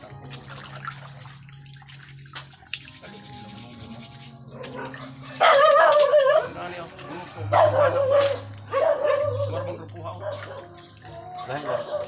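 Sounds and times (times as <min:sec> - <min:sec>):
water sloshing: 0:00.0 - 0:03.4, 0:04.6 - 0:12.0.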